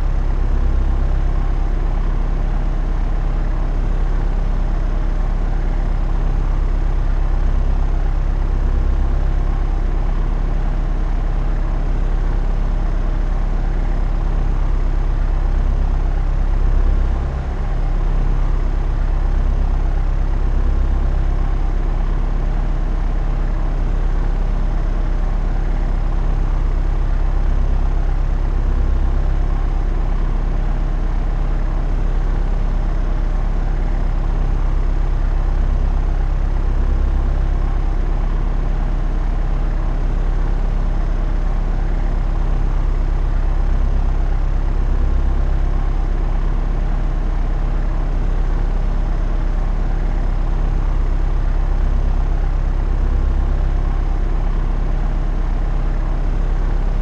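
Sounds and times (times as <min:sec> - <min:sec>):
propeller aeroplane engine drone: 0:00.0 - 0:57.0.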